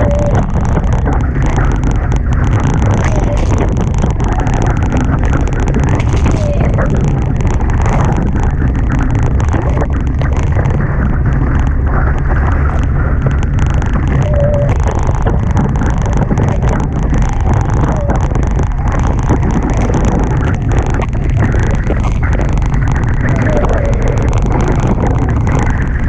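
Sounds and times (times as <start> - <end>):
water rushing past hull: 0.0 - 26.0
wind buffeting microphone: 0.0 - 26.0.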